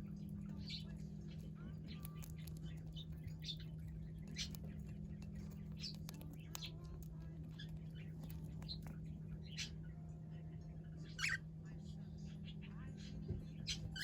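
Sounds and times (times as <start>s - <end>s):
birds chirping and peeping: 0.0s - 14.0s
steady low hum: 0.0s - 14.0s.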